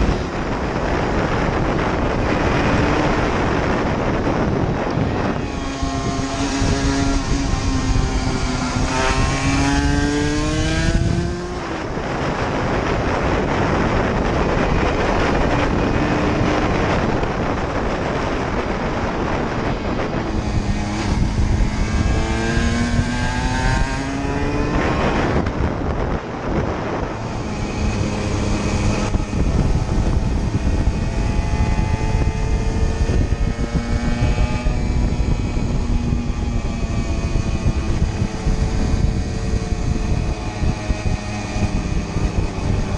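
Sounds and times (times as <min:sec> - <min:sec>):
rushing wind noise: 0:00.0 - 0:42.9
two-stroke motorcycle engine revving: 0:00.0 - 0:42.9.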